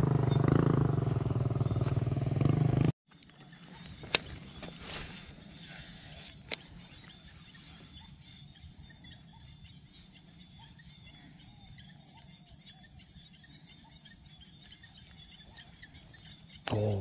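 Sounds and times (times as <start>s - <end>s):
small birds chirping: 0.2s - 2.1s, 3.1s - 17.0s
insects: 3.1s - 17.0s.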